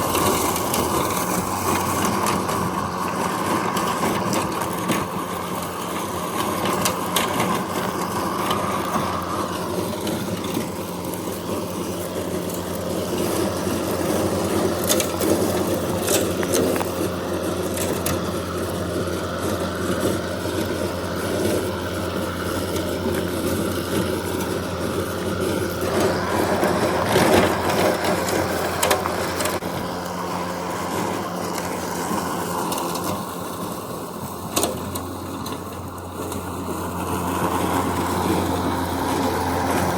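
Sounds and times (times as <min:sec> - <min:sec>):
robotic mower humming: 0:00.0 - 0:39.9.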